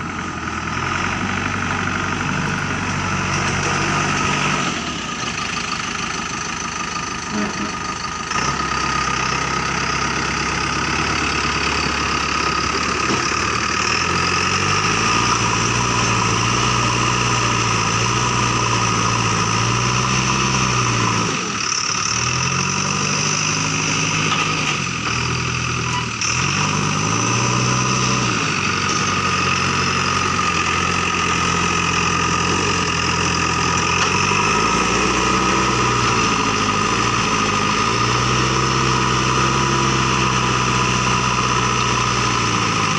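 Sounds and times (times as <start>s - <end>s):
diesel engine under changing load: 0.0s - 42.9s.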